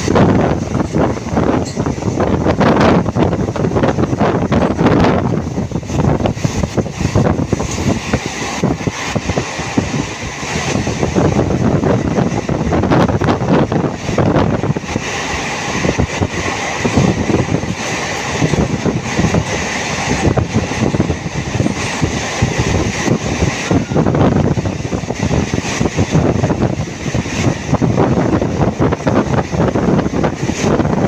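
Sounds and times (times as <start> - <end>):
moving train running noise: 0.0 - 31.0
wind buffeting microphone: 0.0 - 31.0.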